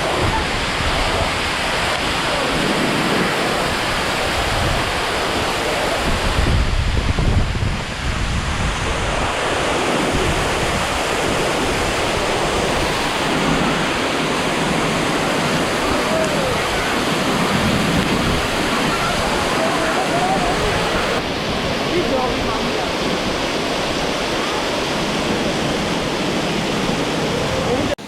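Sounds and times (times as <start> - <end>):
wind buffeting microphone: 0.0 - 27.9
waterfall rushing: 0.0 - 28.0.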